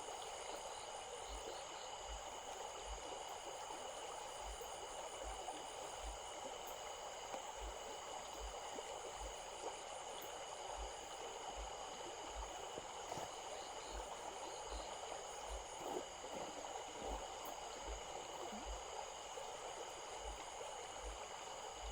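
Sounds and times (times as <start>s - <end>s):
stream running over stones: 0.0s - 21.9s.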